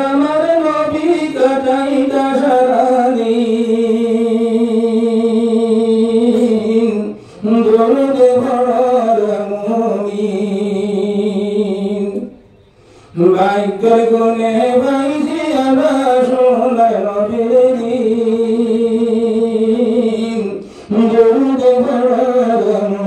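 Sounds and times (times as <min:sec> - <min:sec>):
man singing into a microphone: 0:00.0 - 0:12.4, 0:13.1 - 0:23.0.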